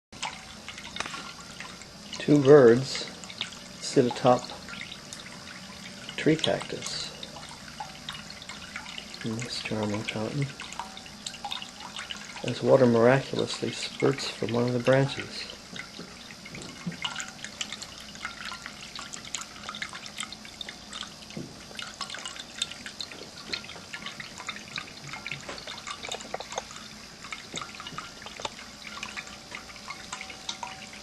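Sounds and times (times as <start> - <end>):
fountain water splashing and dripping: 0.2 - 31.0.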